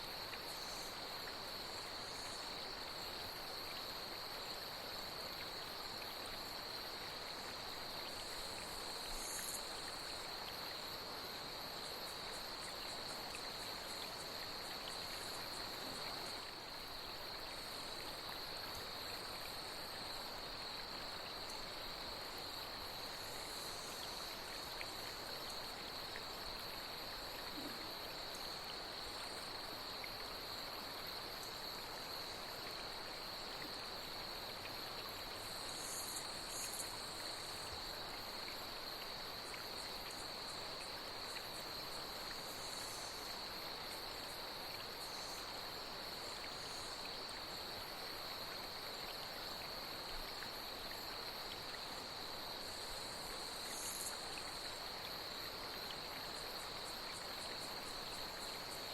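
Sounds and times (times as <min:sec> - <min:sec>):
flowing water: 0:00.0 - 0:58.9
night insects droning: 0:00.0 - 0:58.9.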